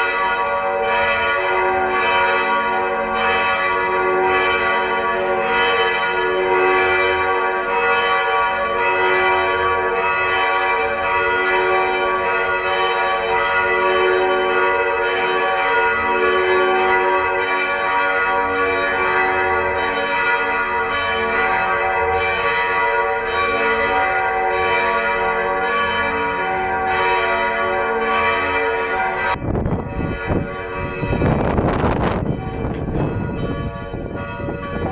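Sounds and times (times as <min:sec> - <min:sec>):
church bells ringing in a peal: 0:00.0 - 0:34.9.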